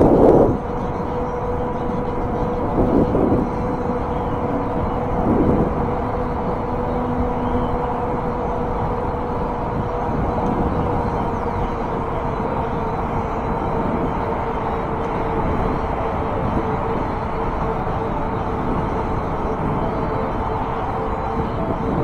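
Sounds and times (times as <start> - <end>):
electric motor whine: 0.0 - 22.0
road traffic: 0.0 - 22.0
wind and tyre noise: 0.0 - 22.0.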